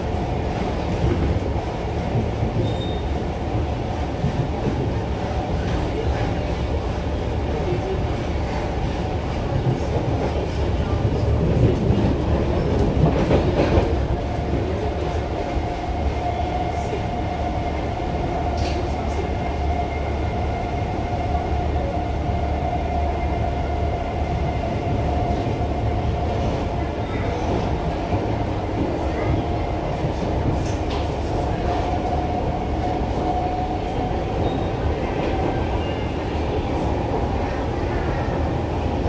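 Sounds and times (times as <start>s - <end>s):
train cabin low rumble: 0.0s - 39.0s.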